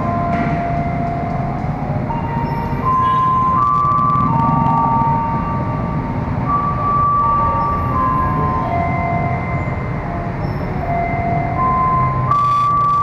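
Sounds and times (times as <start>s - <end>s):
held steady tones: 0.0s - 13.0s.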